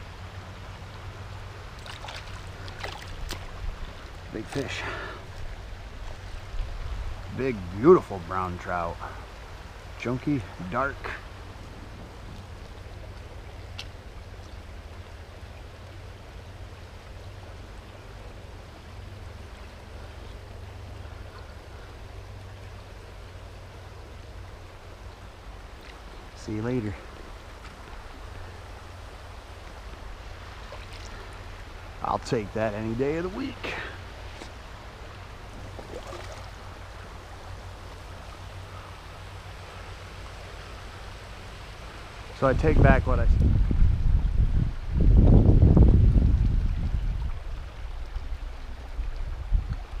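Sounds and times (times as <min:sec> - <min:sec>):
river water flowing: 0:00.0 - 0:50.0.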